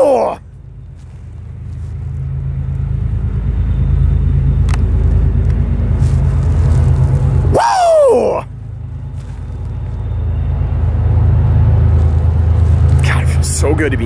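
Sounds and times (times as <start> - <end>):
locomotive engine drone: 0.0 - 14.0.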